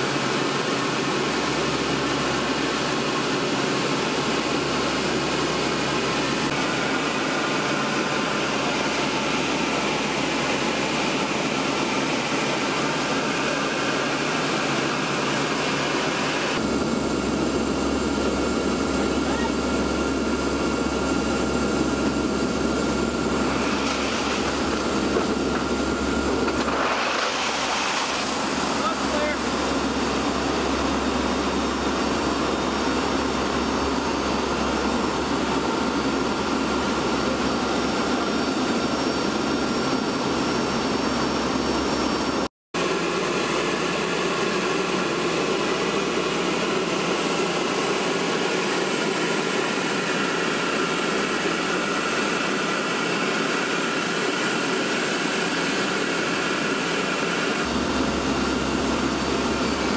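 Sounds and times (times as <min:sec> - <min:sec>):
aircraft engine drone: 0:00.0 - 0:59.9
rushing air inside aircraft: 0:00.0 - 0:59.9.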